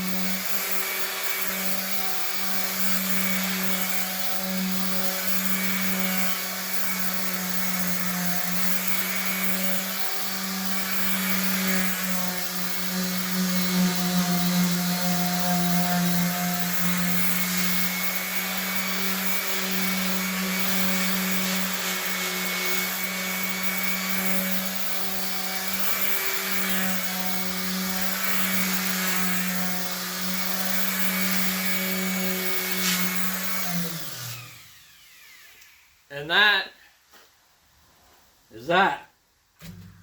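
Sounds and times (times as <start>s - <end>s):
electric sander grinding metal: 0.0s - 35.6s.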